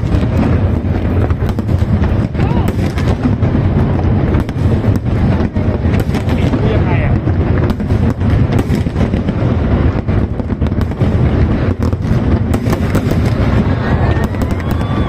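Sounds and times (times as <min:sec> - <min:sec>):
deep rumbling boom: 0:00.0 - 0:15.0
fireworks crackling bangs: 0:00.0 - 0:15.0.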